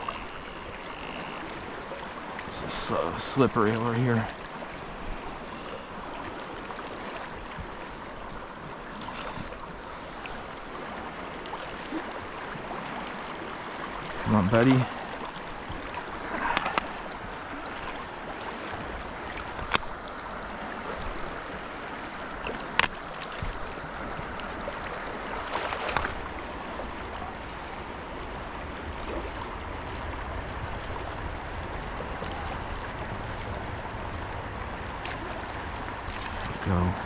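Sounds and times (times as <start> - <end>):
water splashing: 0.0 - 7.8, 8.9 - 27.8, 28.8 - 37.0.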